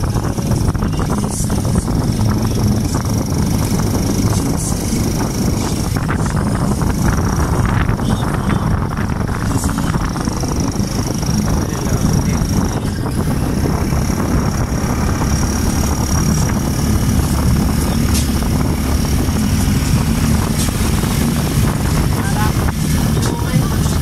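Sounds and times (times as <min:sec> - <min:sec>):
vehicle engine running: 0:00.0 - 0:24.0
wind buffeting microphone: 0:00.0 - 0:24.0.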